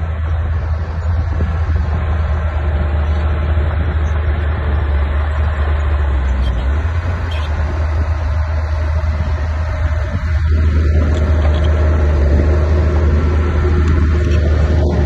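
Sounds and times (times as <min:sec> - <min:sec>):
heavy diesel engine drone: 0:00.0 - 0:15.0.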